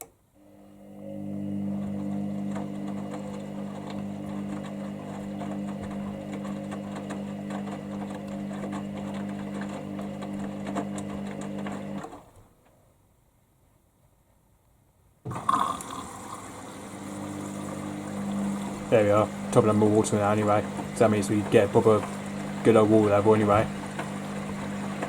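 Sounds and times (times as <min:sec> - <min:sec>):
washing machine motor hum: 0:00.4 - 0:12.4, 0:15.3 - 0:25.0.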